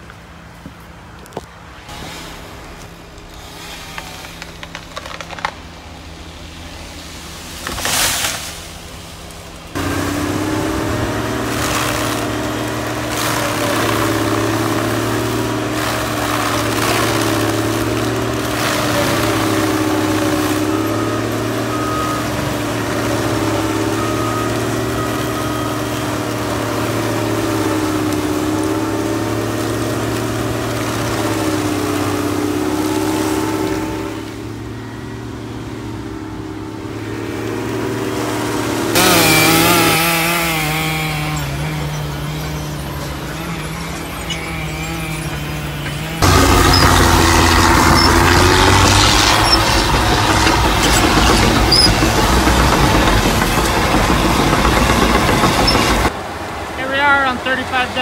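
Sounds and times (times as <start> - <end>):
wood being shredded: 0.0 - 58.0
diesel engine running hard: 1.2 - 58.0.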